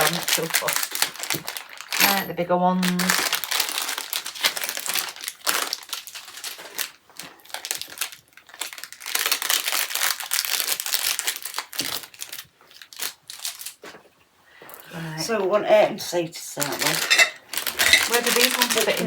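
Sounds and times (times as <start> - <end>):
packaging crinkling: 0.0 - 14.2, 16.6 - 19.0.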